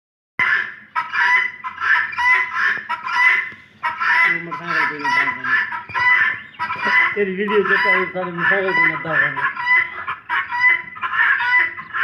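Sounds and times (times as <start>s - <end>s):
birds calling in clipped calls: 1.2s - 12.0s.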